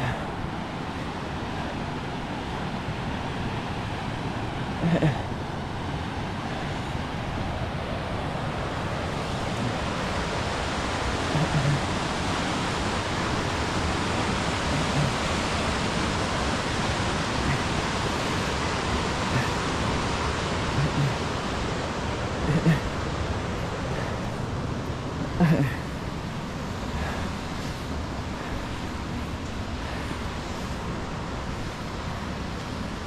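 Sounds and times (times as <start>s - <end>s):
mountain creek rushing: 0.0s - 33.0s.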